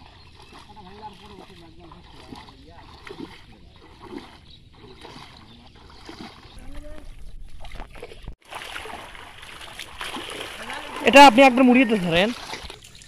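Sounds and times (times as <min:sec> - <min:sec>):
pond water sloshing and splashing: 0:00.0 - 0:13.0.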